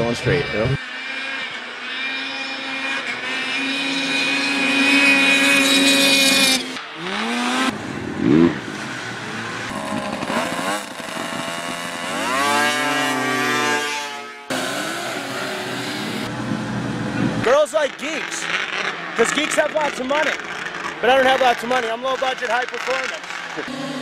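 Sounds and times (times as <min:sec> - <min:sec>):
snowmobile engines revving: 0:00.0 - 0:24.0.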